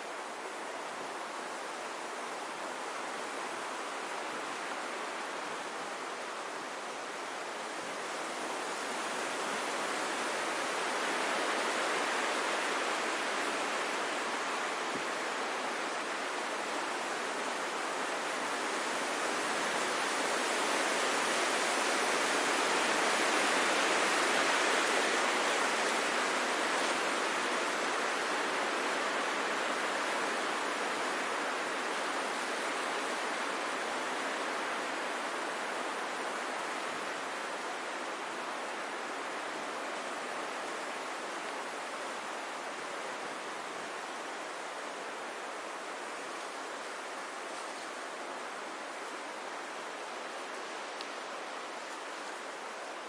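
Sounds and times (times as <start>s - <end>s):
wind blowing through trees: 0.0s - 53.0s.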